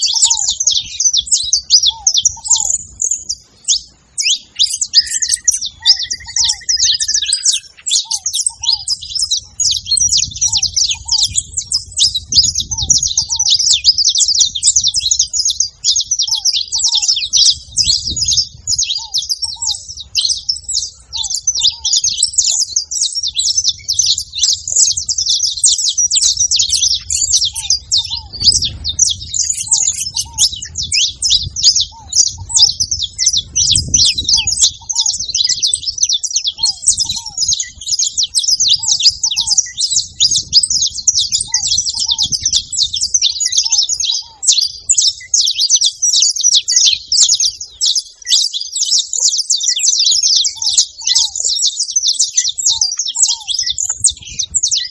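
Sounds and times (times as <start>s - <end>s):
faint low bird call: 0.0s - 45.8s
finches singing and chirping: 0.0s - 54.9s.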